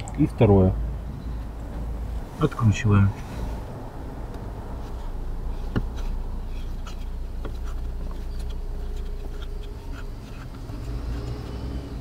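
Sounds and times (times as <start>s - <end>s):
steady low rumble: 0.0s - 10.8s.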